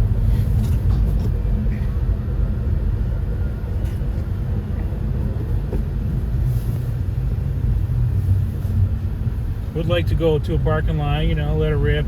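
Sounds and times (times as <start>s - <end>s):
car engine low rumble: 0.0s - 12.0s
road noise: 0.0s - 12.0s.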